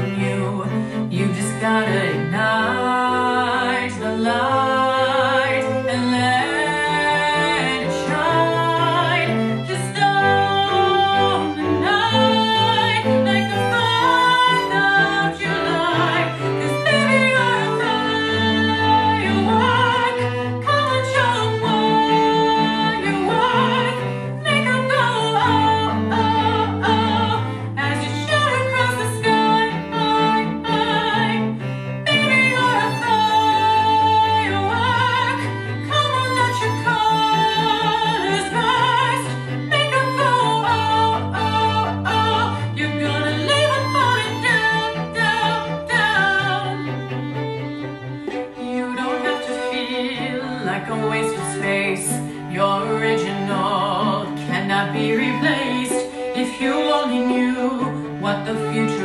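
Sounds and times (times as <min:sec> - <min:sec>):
operatic soprano singing: 0:00.0 - 0:59.0
string quartet playing: 0:00.0 - 0:59.0.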